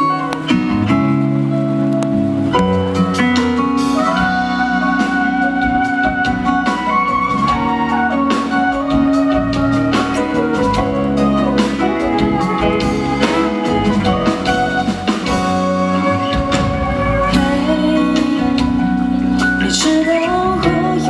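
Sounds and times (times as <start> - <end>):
live band playing pop ballad: 0.0 - 21.0.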